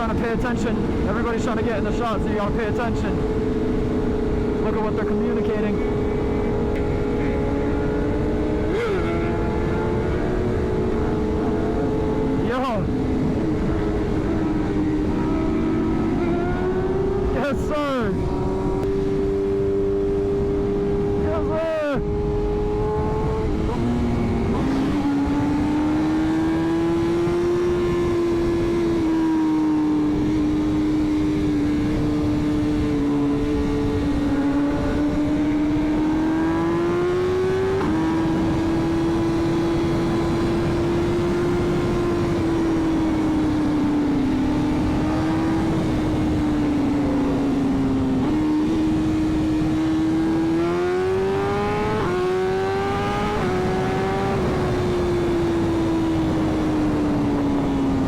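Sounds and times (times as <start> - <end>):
wind rumble on microphone: 0.0 - 58.0
motorcycle engine high revs: 3.0 - 17.3, 22.0 - 58.0.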